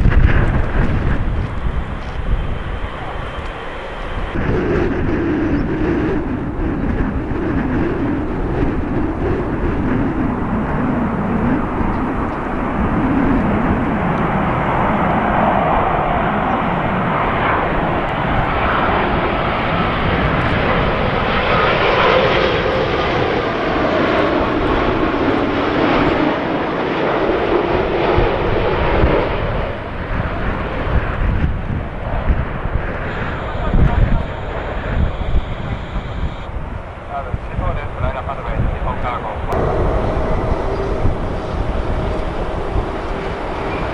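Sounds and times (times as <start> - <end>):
jet engines passing: 0.0 - 43.9.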